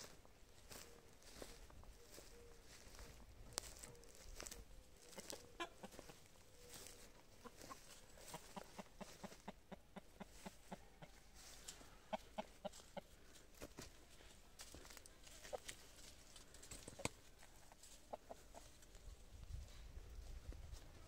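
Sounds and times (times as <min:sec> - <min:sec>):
chickens clucking: 0:00.0 - 0:19.3.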